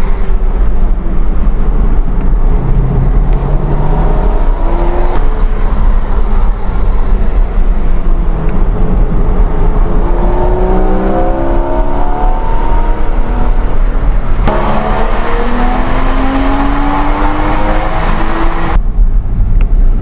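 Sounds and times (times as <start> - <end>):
car engine accelerating: 0.0 - 18.8.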